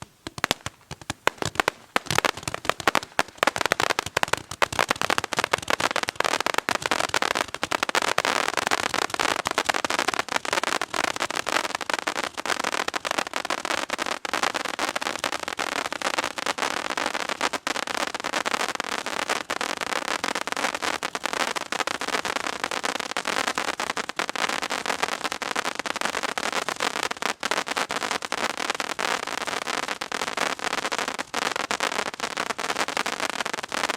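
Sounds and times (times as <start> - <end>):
fireworks cracking and popping: 0.0 - 33.9.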